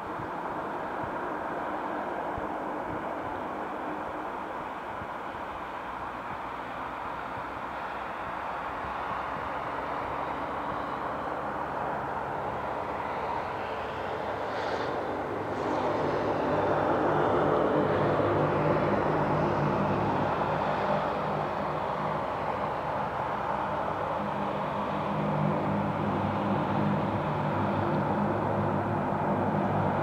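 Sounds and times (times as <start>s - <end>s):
turboprop engines running: 0.0s - 30.0s.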